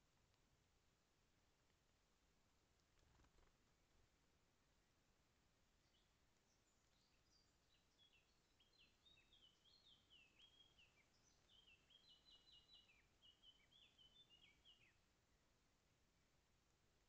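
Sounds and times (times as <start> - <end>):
faint songbird song: 0.0 - 17.0.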